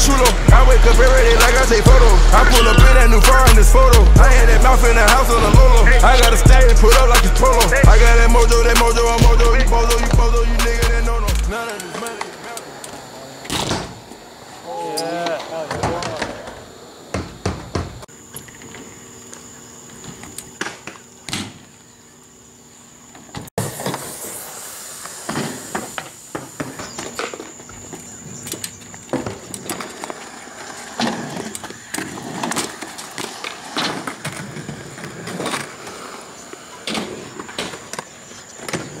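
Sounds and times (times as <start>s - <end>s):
bike tyres rolling on concrete: 0.0s - 10.8s, 11.5s - 22.3s, 23.0s - 39.0s.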